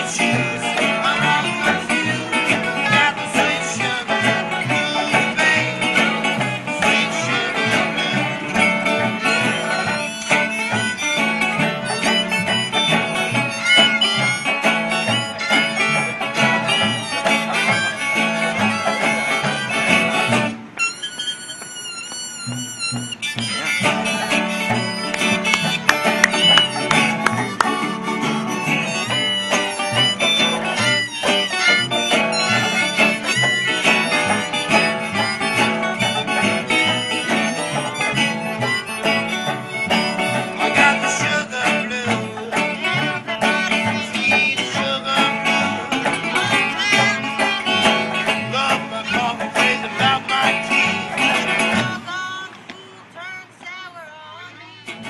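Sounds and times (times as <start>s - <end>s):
acoustic bluegrass music: 0.0s - 55.0s.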